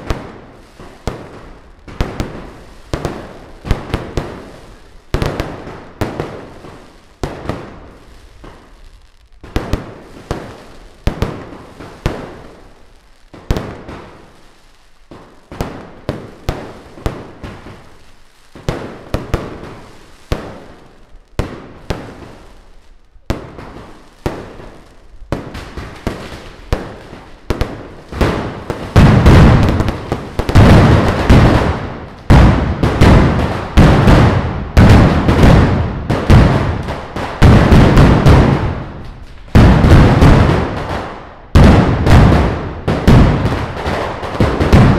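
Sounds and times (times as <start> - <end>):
firecrackers banging: 0.0 - 44.9.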